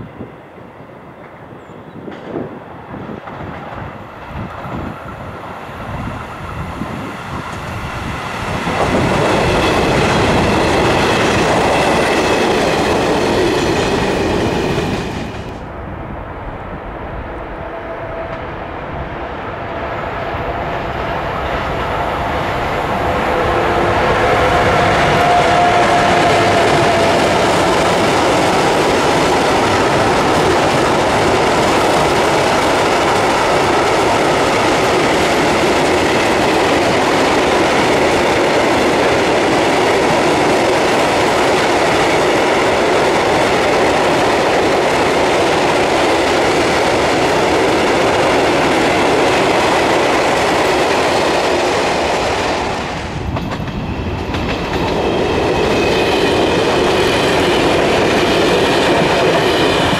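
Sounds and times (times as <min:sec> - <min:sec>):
electric train approaching: 0:00.0 - 0:59.9
freight train rushing past: 0:00.0 - 0:59.9.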